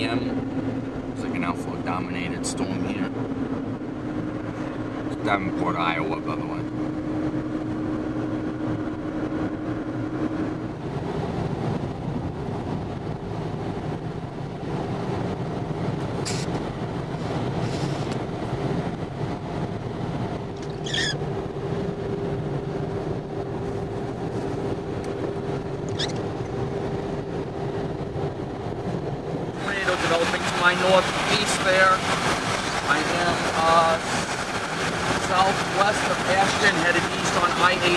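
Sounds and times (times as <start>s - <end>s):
car cabin road and engine drone: 0.0s - 37.9s.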